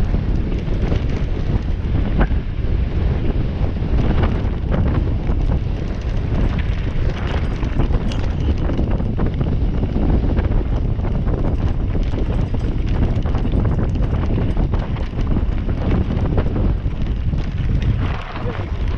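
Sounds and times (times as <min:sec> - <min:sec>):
bike knocks and rattles: 0:00.0 - 0:02.7, 0:03.8 - 0:18.9
wind buffeting microphone: 0:00.0 - 0:18.9.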